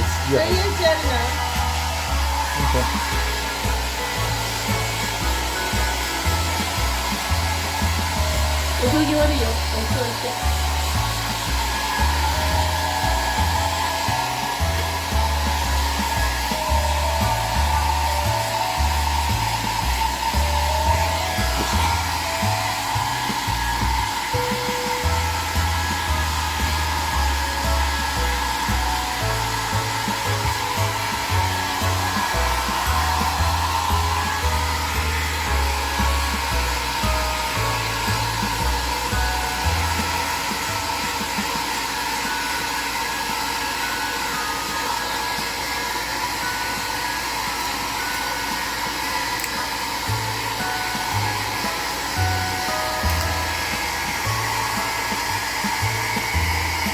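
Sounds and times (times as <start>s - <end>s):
background music: 0.0s - 56.9s
hair dryer blowing: 0.0s - 56.9s.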